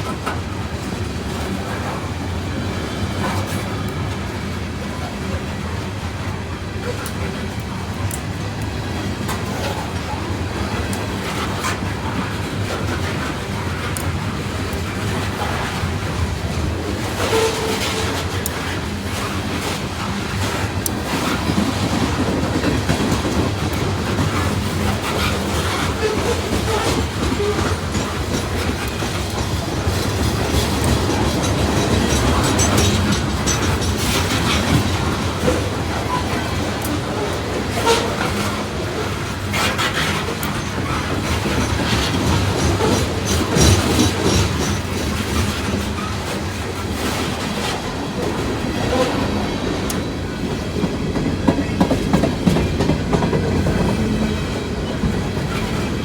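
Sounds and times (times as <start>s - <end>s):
freight train rumbling past: 0.0s - 56.0s
wheels clattering over rail joints: 6.8s - 56.0s.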